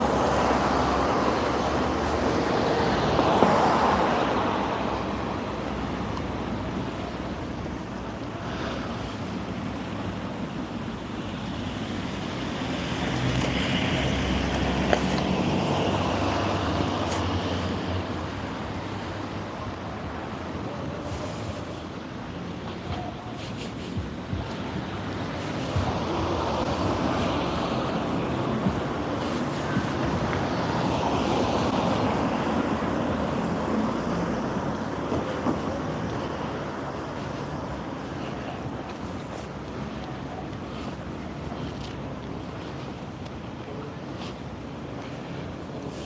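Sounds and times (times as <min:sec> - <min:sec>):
vehicles passing by: 0:00.0 - 0:46.0.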